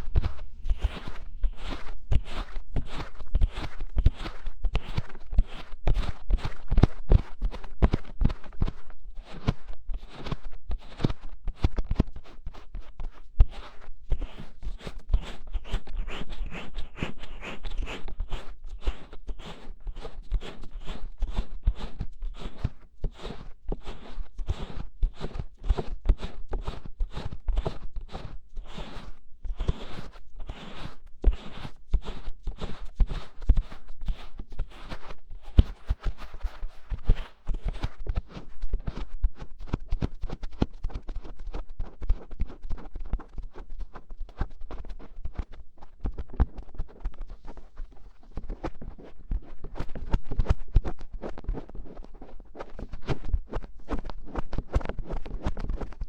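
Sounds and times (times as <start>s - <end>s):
fingertips scratching microphone: 0.0s - 56.0s.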